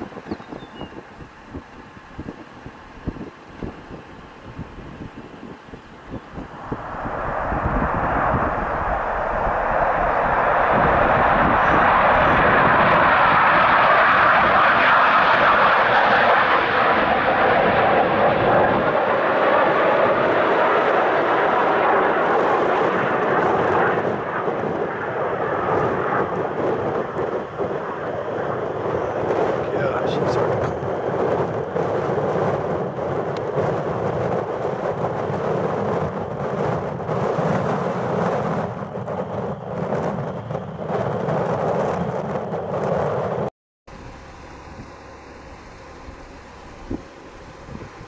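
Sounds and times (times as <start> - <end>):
jet engines at high power: 0.0 - 48.0.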